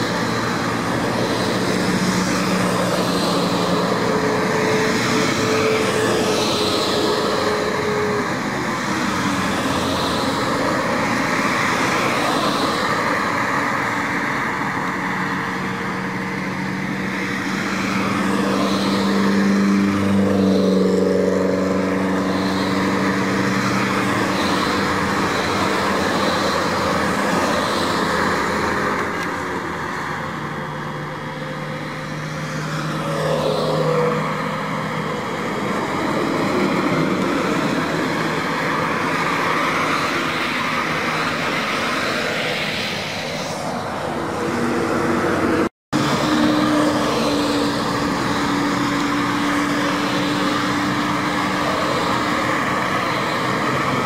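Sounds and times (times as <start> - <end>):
tyre and road noise: 0.0 - 54.0
vehicle engines running: 0.0 - 54.0.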